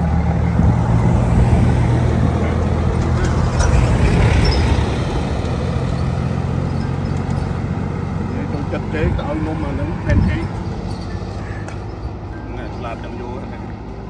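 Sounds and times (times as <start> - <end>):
road traffic noise: 0.0 - 14.0
vehicle engine running: 0.0 - 14.0.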